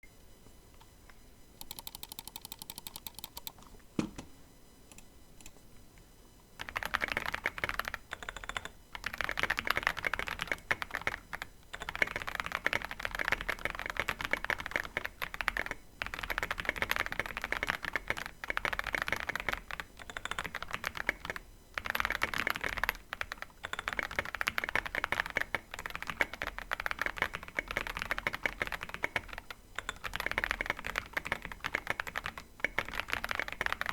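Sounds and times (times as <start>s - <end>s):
mechanical keyboard typing: 1.6s - 3.6s, 6.6s - 33.9s.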